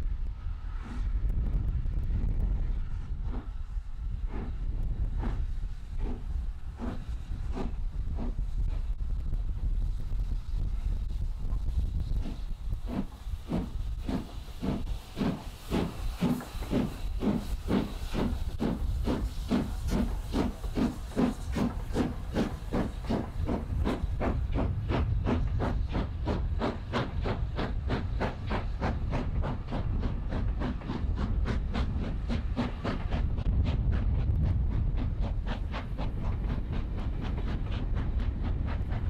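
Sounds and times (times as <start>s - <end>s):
steam locomotive exhaust beats: 0.0s - 39.0s
steam hissing: 2.6s - 39.0s.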